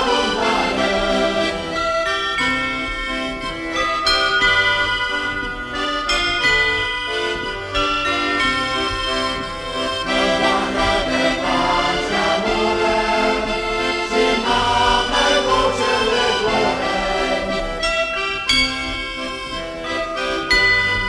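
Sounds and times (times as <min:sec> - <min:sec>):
accordion playing: 0:00.0 - 0:21.0
ringing bells: 0:00.0 - 0:21.0.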